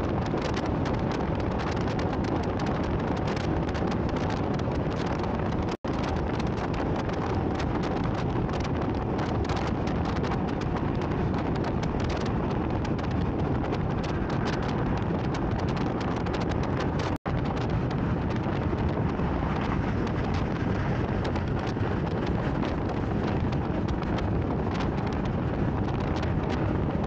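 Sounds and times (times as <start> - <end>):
strong wind buffeting microphone: 0.0 - 27.0.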